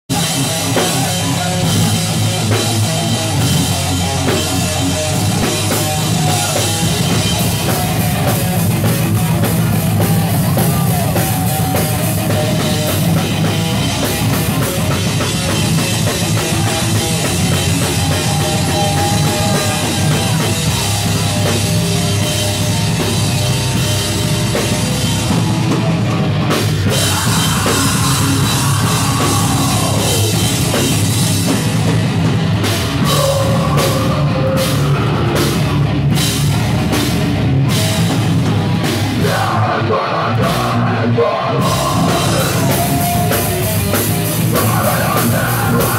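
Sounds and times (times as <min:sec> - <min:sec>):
heavy metal band playing live: 0:00.0 - 0:45.9
pounding bass drum: 0:00.1 - 0:45.9.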